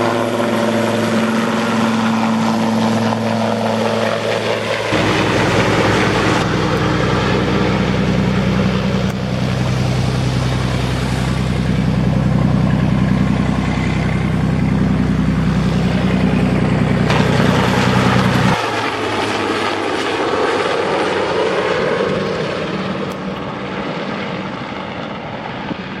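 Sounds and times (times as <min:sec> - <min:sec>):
broad rushing sound: 0:00.0 - 0:21.3
helicopter rotor drone: 0:00.0 - 0:26.0.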